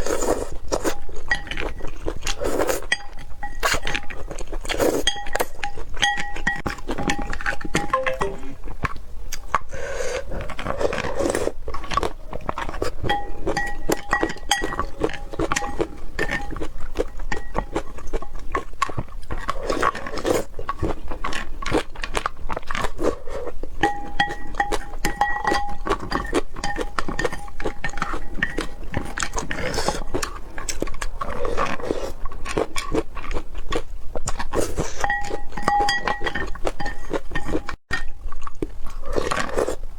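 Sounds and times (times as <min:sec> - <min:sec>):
crunchy chewing: 0:00.0 - 0:07.9, 0:08.8 - 0:39.9
wet chewing: 0:00.0 - 0:08.1, 0:08.8 - 0:39.9.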